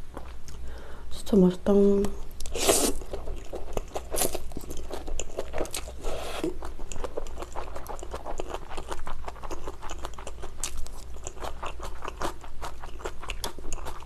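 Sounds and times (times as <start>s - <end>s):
chewing noodles: 2.4s - 14.0s.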